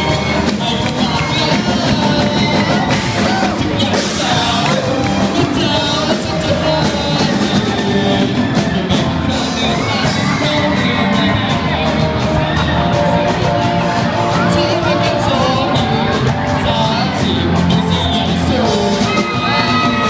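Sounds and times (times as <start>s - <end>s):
man singing into a microphone: 0.0s - 13.4s, 14.2s - 20.0s
drum kit: 0.0s - 20.0s
electric guitars: 0.0s - 20.0s
keyboard: 0.0s - 20.0s.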